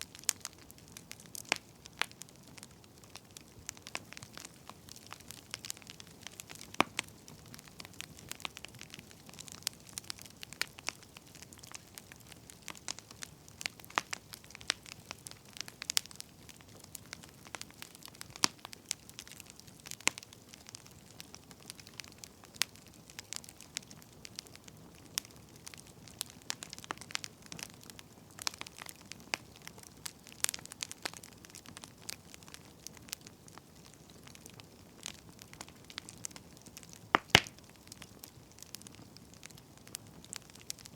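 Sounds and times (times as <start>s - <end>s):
faint steady hiss: 0.0s - 40.9s
wood fire crackling: 0.0s - 40.9s.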